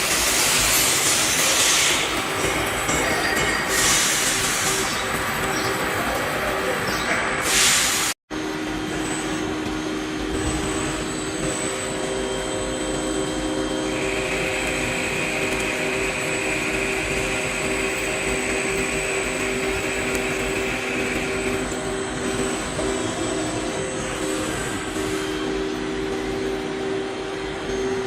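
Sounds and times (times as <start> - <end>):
high steady whine: 0.0 - 28.0
machine tool running: 0.0 - 28.0.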